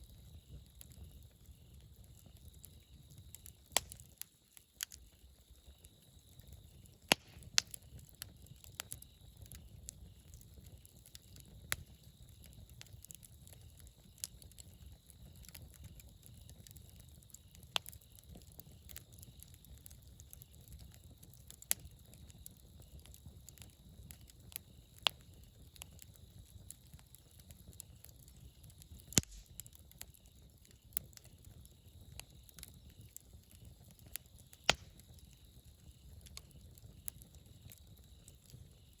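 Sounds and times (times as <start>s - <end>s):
campfire crackling and popping: 0.0s - 39.0s
low rumble of flame: 0.0s - 39.0s.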